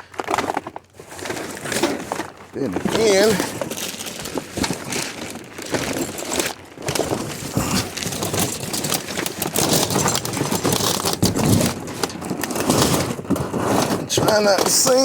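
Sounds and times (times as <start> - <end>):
junk rustling and clattering: 0.0 - 15.0.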